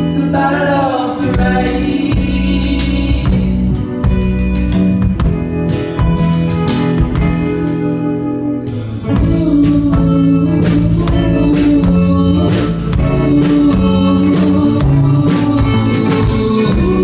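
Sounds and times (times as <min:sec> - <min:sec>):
steady drum beat: 0:00.0 - 0:07.8, 0:08.7 - 0:17.0
electric guitar: 0:00.0 - 0:17.0.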